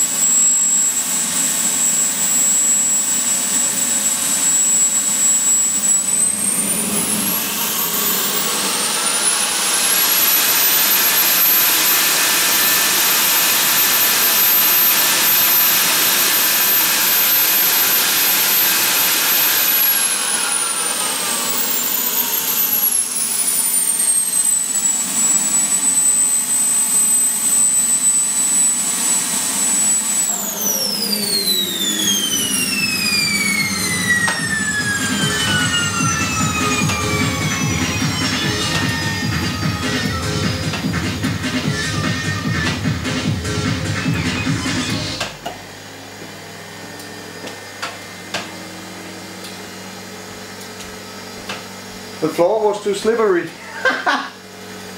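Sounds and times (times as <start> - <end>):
turbine engine whine: 0.0 - 54.9.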